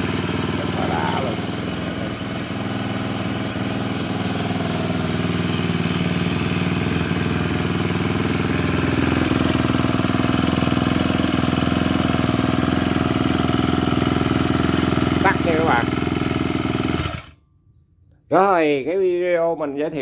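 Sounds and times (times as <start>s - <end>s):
brush cutter engine running: 0.0s - 17.4s.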